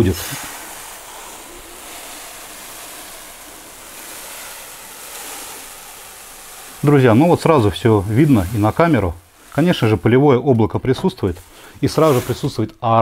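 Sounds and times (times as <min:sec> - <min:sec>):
cat litter pouring into tray: 0:00.0 - 0:12.7.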